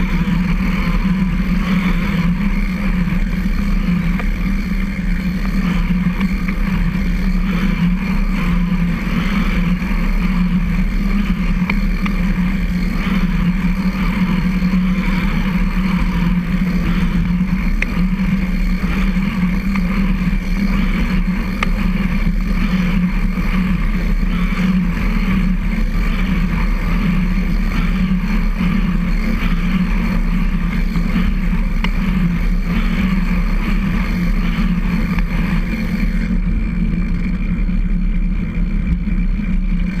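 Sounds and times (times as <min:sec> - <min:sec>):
tyres and chain rumbling: 0:00.0 - 0:40.0.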